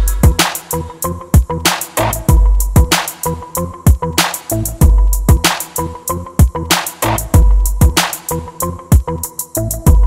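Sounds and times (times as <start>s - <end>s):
electronic hip-hop music: 0.0s - 10.0s.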